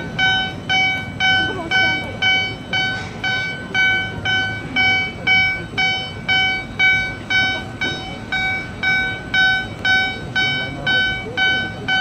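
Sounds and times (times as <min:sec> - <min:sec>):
electronic warning beeps: 0:00.0 - 0:12.0.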